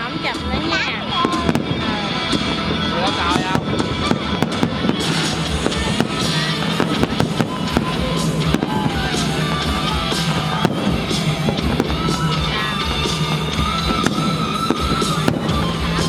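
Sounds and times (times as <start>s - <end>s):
fireworks bangs and crackles: 0.0s - 16.0s
loud show music: 0.0s - 16.0s.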